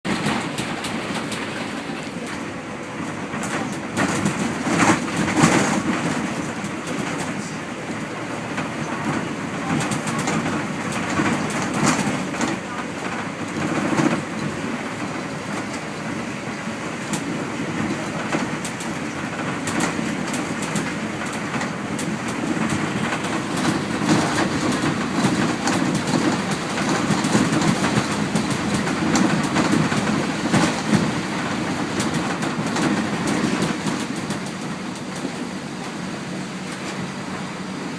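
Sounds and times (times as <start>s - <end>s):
bus body rattling and knocking: 0.0s - 37.9s
bus engine and road drone: 0.0s - 37.9s.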